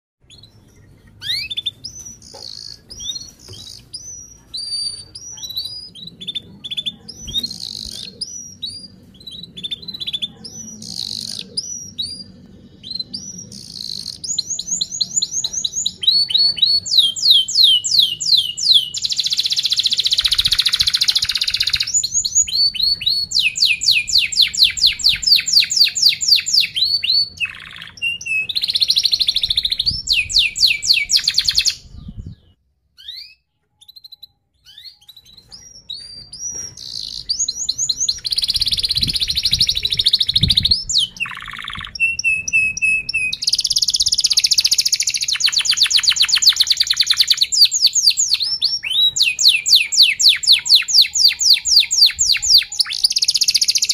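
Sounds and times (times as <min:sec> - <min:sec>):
canary singing: 0:00.2 - 0:53.9.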